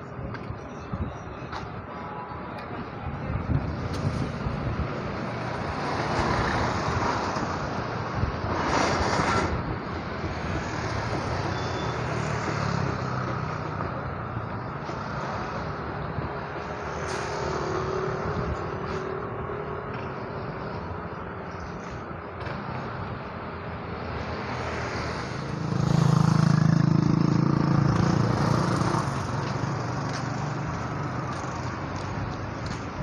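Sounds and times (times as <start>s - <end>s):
passing motor vehicles: 0.0s - 33.0s.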